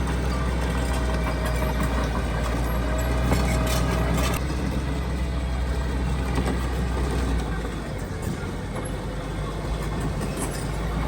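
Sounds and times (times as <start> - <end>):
diesel machinery engine hum: 0.0 - 11.0.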